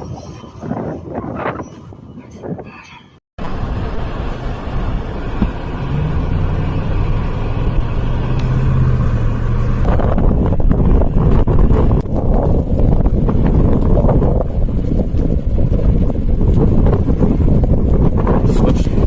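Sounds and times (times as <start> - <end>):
heavy rushing noise: 3.4 - 19.0
vehicle engine running: 3.4 - 19.0.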